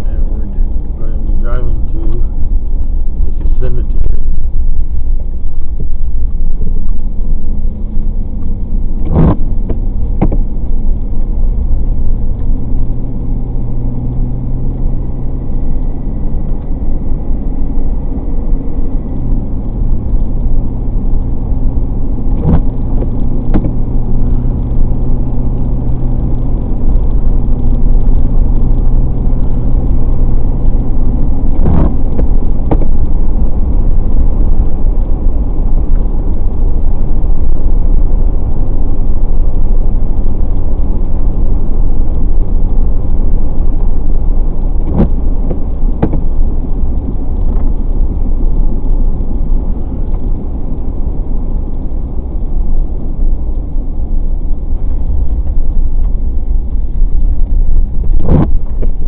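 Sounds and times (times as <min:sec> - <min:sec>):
low engine hum: 0:00.0 - 0:59.0
road and tyre rumble: 0:00.0 - 0:59.0.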